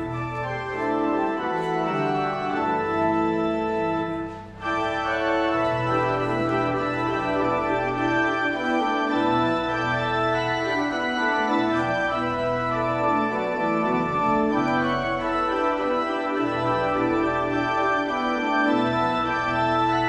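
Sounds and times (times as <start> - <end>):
church organ playing: 0.0 - 20.0.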